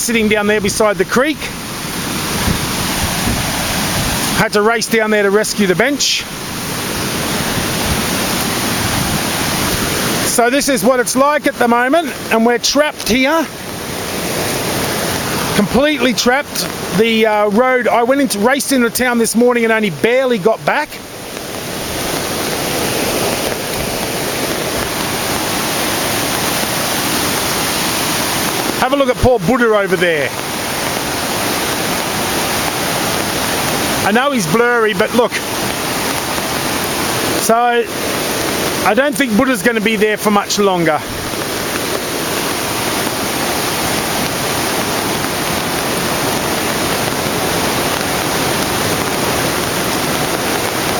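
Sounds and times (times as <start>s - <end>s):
floodwater rushing: 0.0s - 50.9s.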